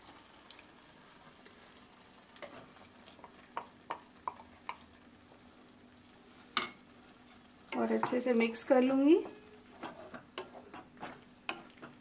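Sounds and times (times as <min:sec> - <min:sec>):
faint sizzle from pan: 0:00.0 - 0:12.0.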